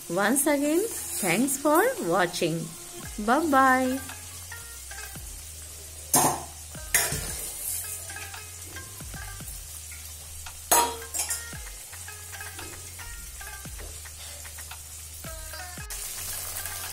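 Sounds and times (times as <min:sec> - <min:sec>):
pastry deep-frying in oil: 0:00.0 - 0:16.9.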